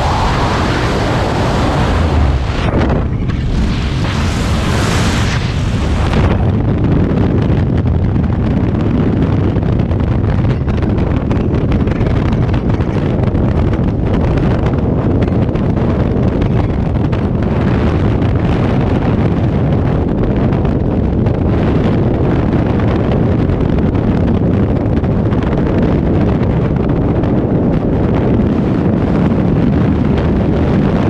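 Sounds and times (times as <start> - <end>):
wind blasting over microphone: 0.0 - 31.0.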